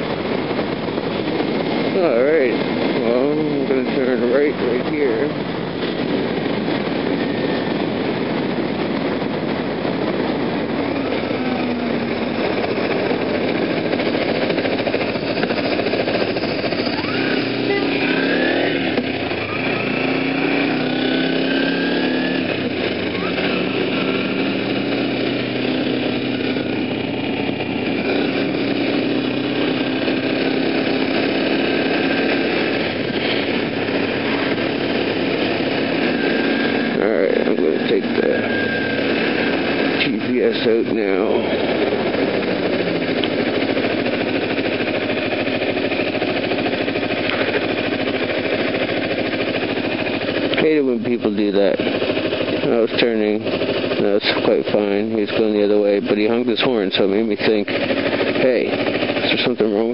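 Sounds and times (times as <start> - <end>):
wind noise: 0.0 - 58.9
motorcycle engine running: 0.0 - 59.9.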